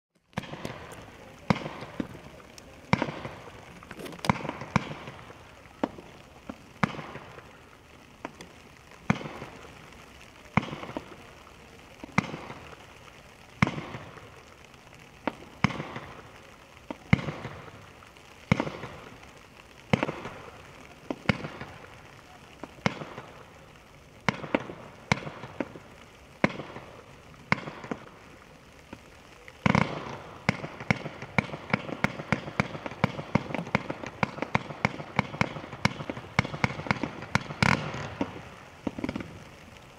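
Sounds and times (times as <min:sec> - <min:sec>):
firework cake pops: 0:00.1 - 0:39.9.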